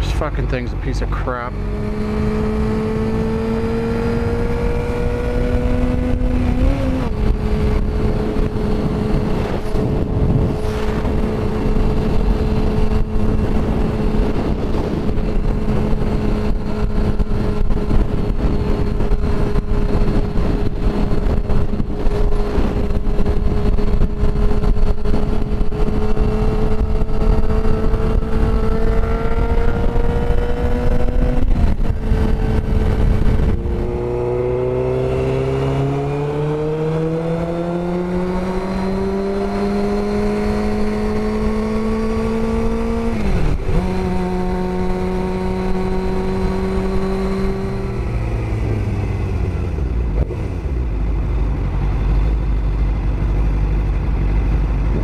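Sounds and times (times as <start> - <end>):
wind rush: 0.0 - 50.9
motorcycle engine cruising: 0.0 - 55.0.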